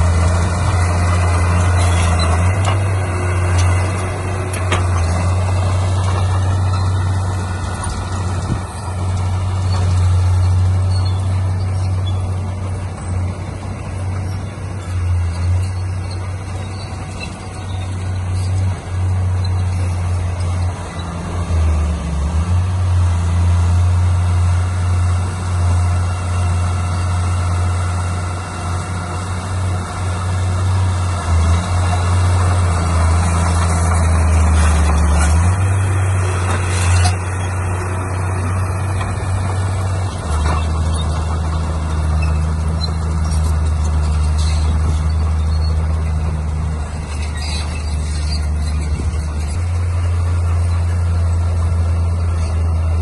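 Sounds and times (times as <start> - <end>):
heavy diesel machinery engine hum: 0.0 - 53.0.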